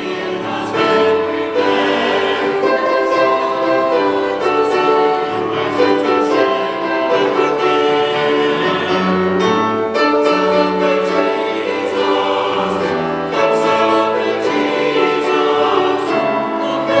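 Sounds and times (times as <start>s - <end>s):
church choir singing: 0.0s - 17.0s
instrumental accompaniment: 0.0s - 17.0s.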